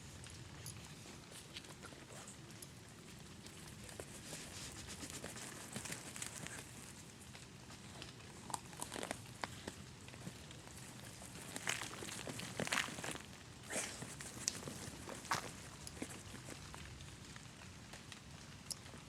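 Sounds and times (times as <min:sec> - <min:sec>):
tarp rustling and crinkling: 0:00.0 - 0:19.0.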